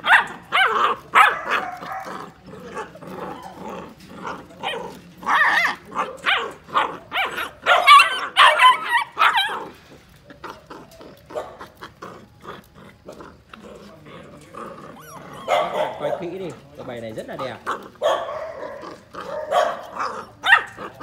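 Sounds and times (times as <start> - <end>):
puppies barking and yelping: 0.0 - 21.0.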